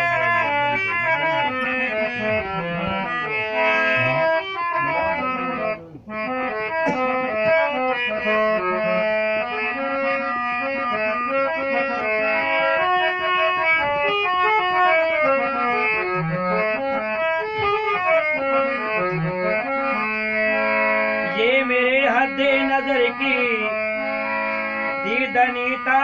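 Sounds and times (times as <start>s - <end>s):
harmonium playing held notes: 0.0s - 26.0s.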